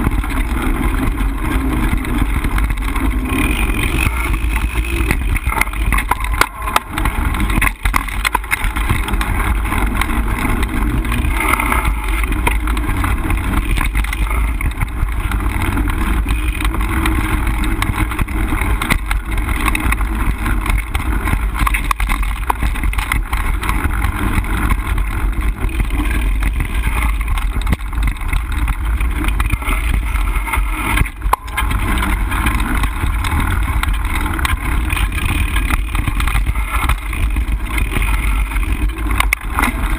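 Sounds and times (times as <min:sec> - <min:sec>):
bike knocks and rattles: 0:00.0 - 0:39.9
wind rush on microphone: 0:00.0 - 0:39.9.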